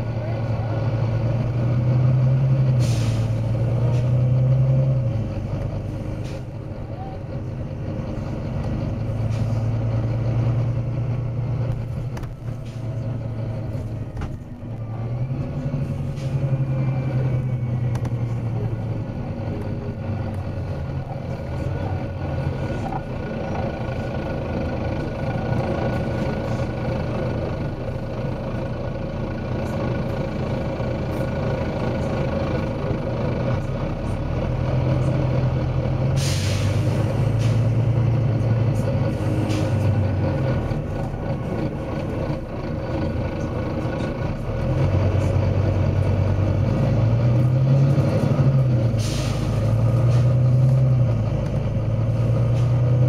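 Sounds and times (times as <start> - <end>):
diesel bus engine droning: 0.0 - 53.0.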